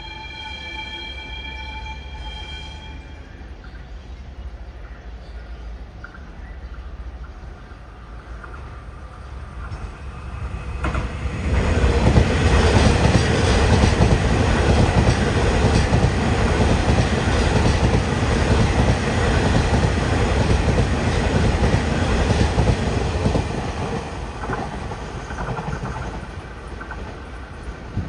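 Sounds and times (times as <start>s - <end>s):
train passing close by: 0.0s - 28.0s.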